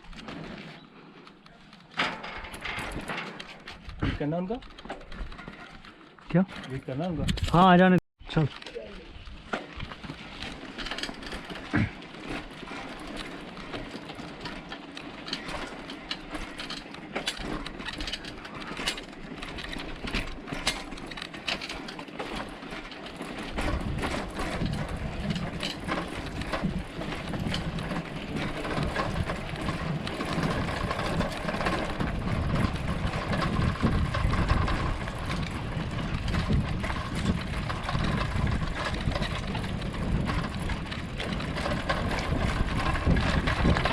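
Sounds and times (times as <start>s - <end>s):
bicycle rattling and clicking: 0.0s - 43.9s.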